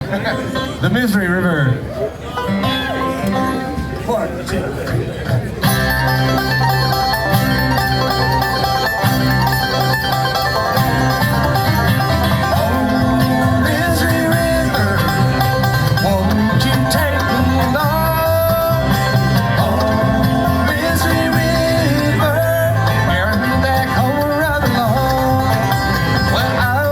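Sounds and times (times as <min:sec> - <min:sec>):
banjo picking: 0:00.0 - 0:26.9
bluegrass band playing: 0:00.0 - 0:26.9.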